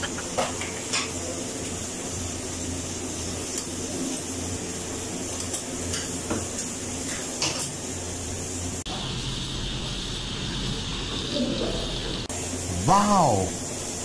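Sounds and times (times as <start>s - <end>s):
kitchen hum and hiss: 0.0s - 14.0s.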